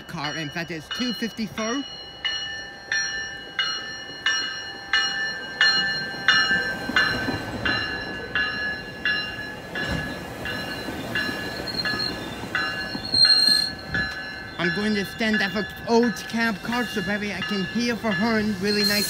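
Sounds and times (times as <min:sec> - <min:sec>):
train bell ringing: 0:00.0 - 0:19.0
train cars rumbling: 0:00.0 - 0:19.0.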